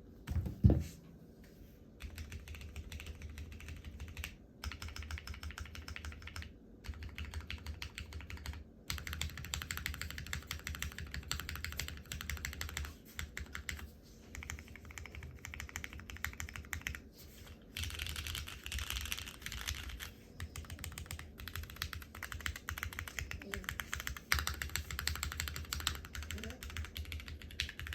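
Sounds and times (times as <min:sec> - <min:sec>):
fast typing on mechanical keyboard: 0:02.0 - 0:17.0, 0:17.8 - 0:27.9.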